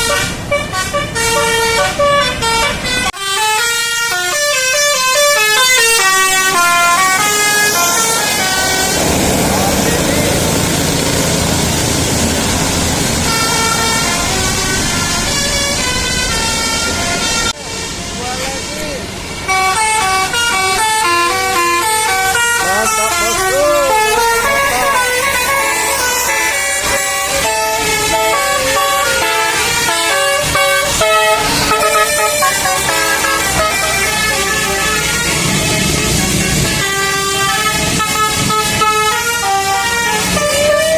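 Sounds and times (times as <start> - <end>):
musical air horn tune: 0.0 - 10.3, 13.2 - 17.6, 19.5 - 40.9
steady noisy rumble: 6.5 - 39.3.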